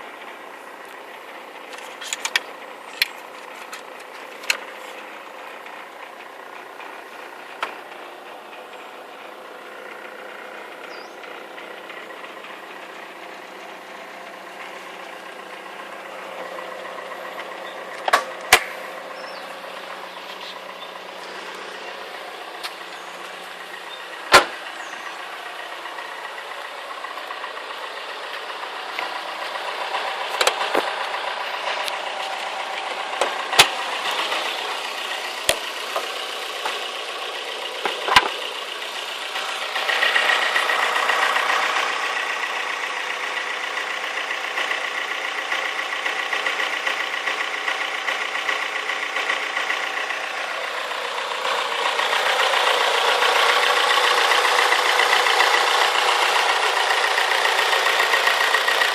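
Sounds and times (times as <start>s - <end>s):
constant engine clicking: 0.0s - 58.9s
engine idling: 0.0s - 58.9s.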